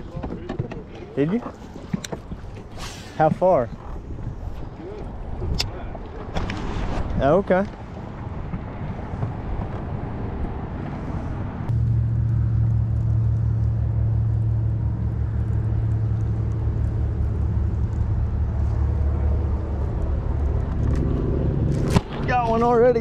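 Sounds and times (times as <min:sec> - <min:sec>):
wind and water noise: 0:00.0 - 0:23.0.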